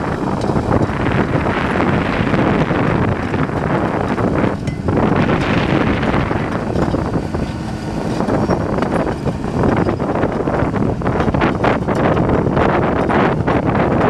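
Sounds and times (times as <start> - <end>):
diesel engine under load: 0.0 - 14.0
soil and rocks grinding: 0.0 - 14.0
steel tracks clattering: 0.0 - 14.0.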